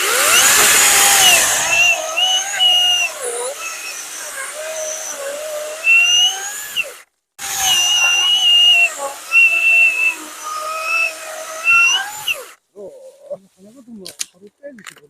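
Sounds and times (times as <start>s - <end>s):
chainsaw cutting a log: 0.0s - 12.6s.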